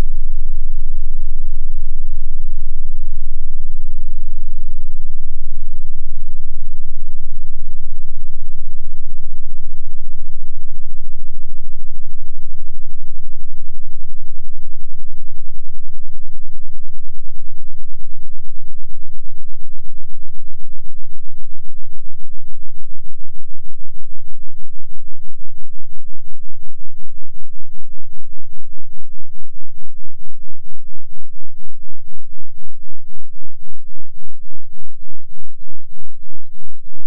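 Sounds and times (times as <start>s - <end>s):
deep bass sine wave sliding down: 0.0s - 37.0s.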